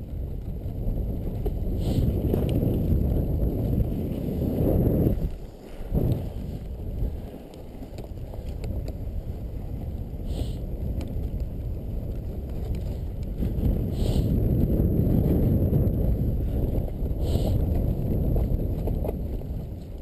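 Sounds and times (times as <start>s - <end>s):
sled running over snow: 0.0s - 20.0s
wind rumbling on microphone: 0.0s - 20.0s.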